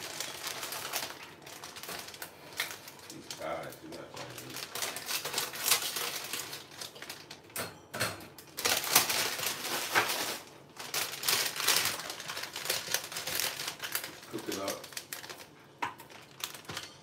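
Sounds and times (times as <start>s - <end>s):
plastic bag crinkling: 0.0s - 7.6s, 8.4s - 17.0s.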